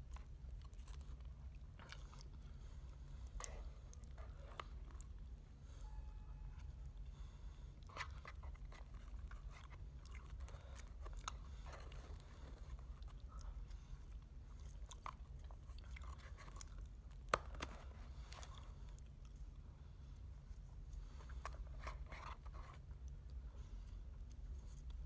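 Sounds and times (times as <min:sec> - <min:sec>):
low steady hum: 0:00.0 - 0:25.0
person chewing and crunching food: 0:00.0 - 0:25.0.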